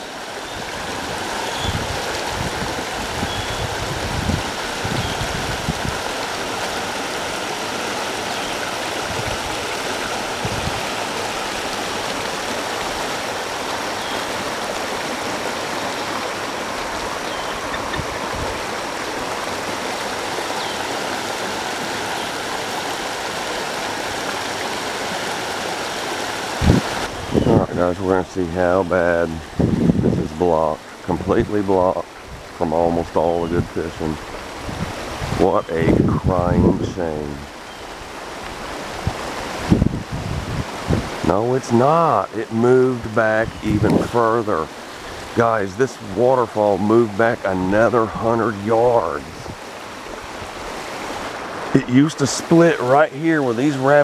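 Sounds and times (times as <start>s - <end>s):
creek water rushing over rapids: 0.0s - 54.0s.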